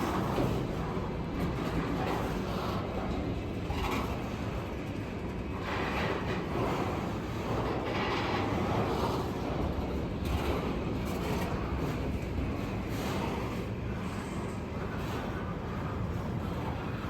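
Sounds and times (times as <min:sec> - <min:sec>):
wheels rumbling on rails: 0:00.0 - 0:17.0.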